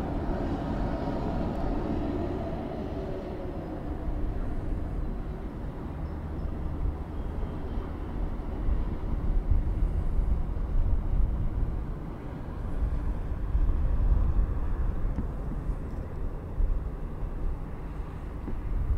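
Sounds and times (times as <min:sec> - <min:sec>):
city street rumble: 0:00.0 - 0:18.9.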